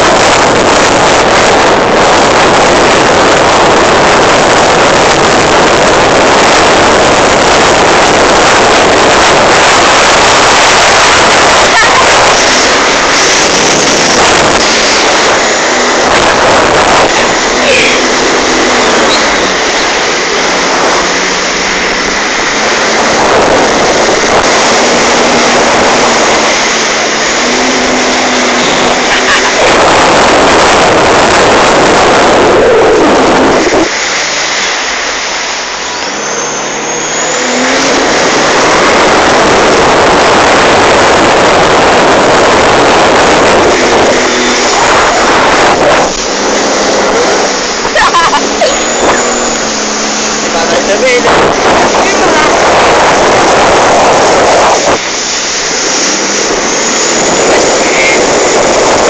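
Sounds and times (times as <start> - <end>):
jet ski engine: 0.0 - 59.0
wind and water rushing on microphone: 0.0 - 59.0.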